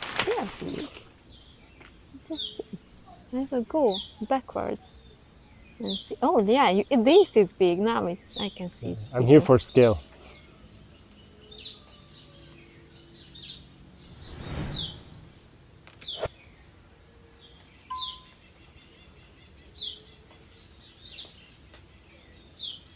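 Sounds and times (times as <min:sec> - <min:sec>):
high insect drone: 0:00.0 - 0:22.9.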